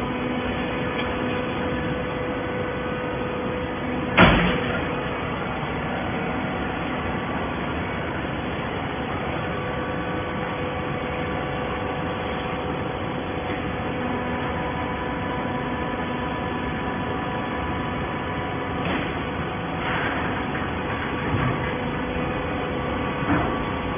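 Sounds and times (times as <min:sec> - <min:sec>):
bottle baler machine hum: 0:00.0 - 0:23.9.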